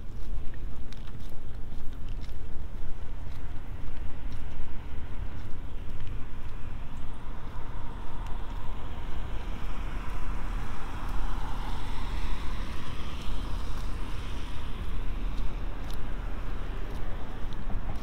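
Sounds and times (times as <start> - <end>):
traffic on wet road: 0.0 - 18.0
wind on microphone: 0.0 - 18.0.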